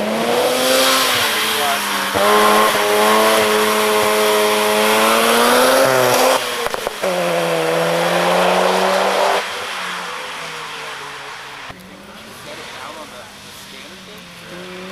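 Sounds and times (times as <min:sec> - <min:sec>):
engine crackles: 0:00.0 - 0:14.9
rotary engine revving high: 0:00.0 - 0:14.9.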